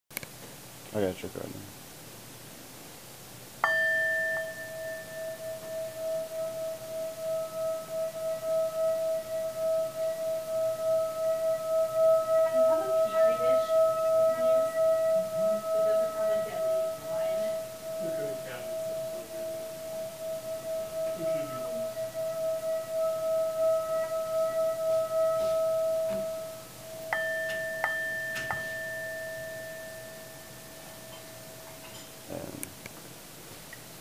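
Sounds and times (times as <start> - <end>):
singing bowl ringing: 3.6 - 32.4
singing bowl struck: 3.6 - 32.4.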